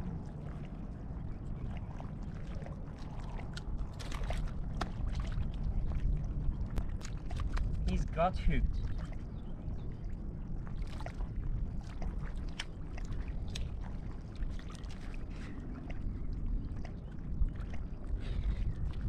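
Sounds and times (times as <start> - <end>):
water lapping at shore: 0.0 - 19.0
wind rumble on microphone: 0.0 - 19.0.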